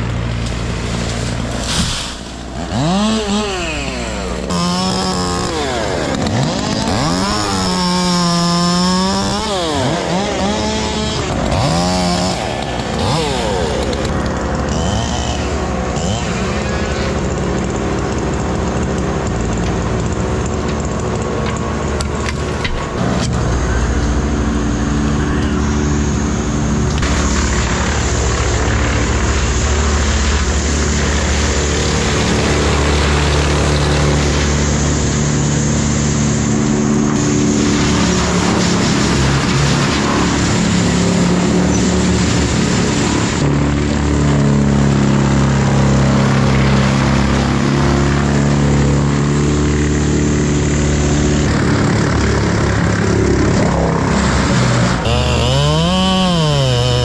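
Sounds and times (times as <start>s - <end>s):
branches rushing through chipper: 0.0s - 25.0s, 26.7s - 57.0s
brush chipper running: 0.0s - 57.0s
excavator engine: 0.0s - 57.0s.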